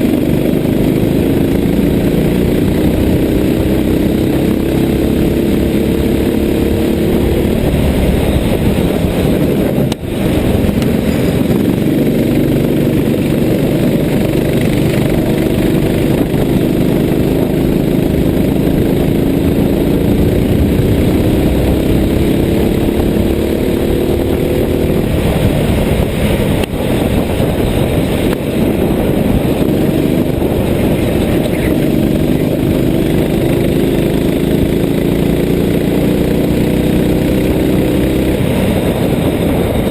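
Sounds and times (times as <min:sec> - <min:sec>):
vehicle engine accelerating: 0:00.0 - 0:39.9.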